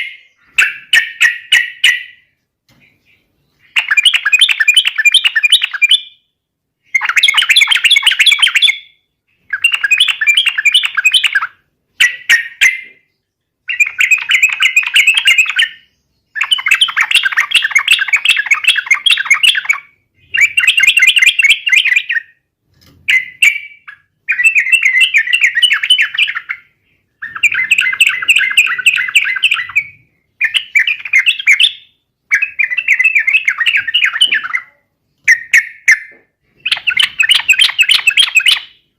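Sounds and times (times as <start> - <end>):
bird singing chattering phrases: 0.0 - 6.2, 6.8 - 22.4, 23.1 - 38.9.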